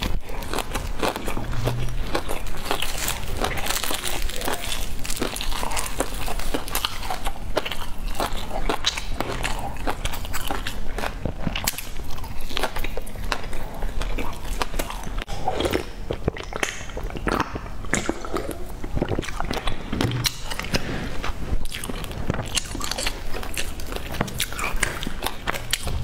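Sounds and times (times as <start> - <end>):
person chewing and biting: 0.0 - 26.0.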